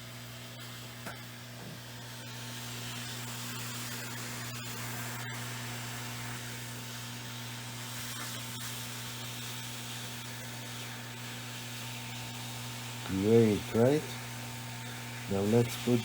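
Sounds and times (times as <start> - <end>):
hot-air gun blowing: 0.6 - 16.0.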